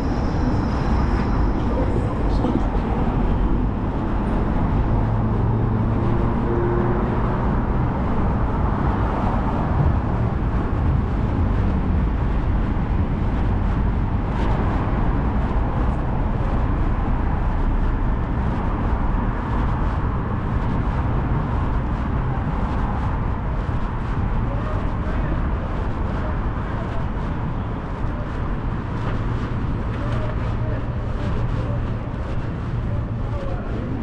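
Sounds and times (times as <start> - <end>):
motor vehicles passing: 0.0 - 34.0
road noise rumble: 0.0 - 34.0.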